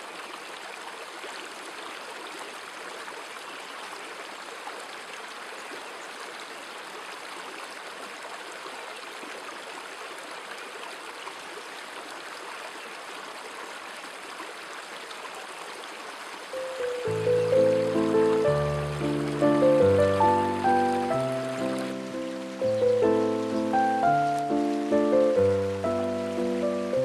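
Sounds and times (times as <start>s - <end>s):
running stream water: 0.0s - 27.0s.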